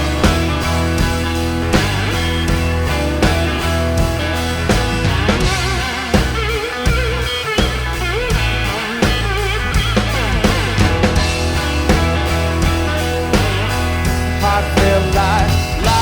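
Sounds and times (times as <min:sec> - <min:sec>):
live blues-rock band playing: 0:00.0 - 0:16.0.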